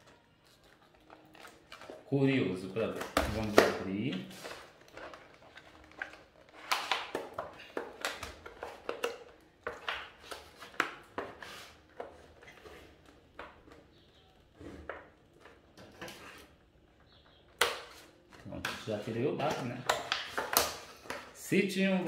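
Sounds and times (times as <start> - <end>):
plastic packaging crackling: 0.0 - 22.0.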